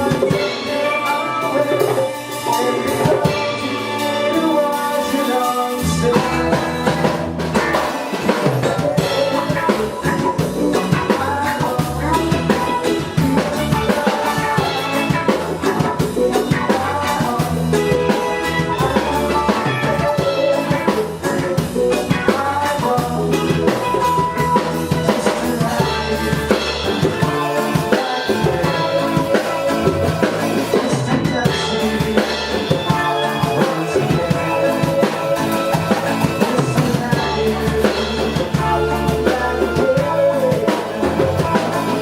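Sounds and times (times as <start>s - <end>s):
drum kit beat: 0.0s - 42.0s
pitched instruments: 0.0s - 42.0s.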